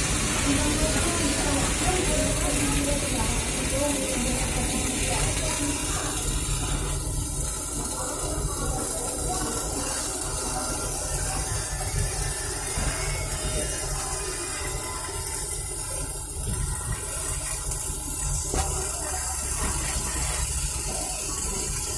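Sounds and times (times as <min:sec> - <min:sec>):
steady rain falling: 0:00.0 - 0:21.9.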